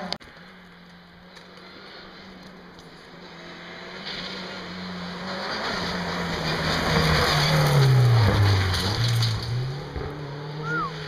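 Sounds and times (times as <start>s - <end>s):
rally car engine passing: 0.0s - 11.0s.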